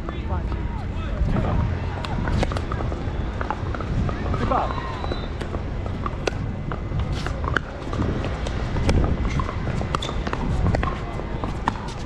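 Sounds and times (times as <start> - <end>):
low background rumble: 0.0 - 12.0
ball bouncing on court: 2.0 - 12.0.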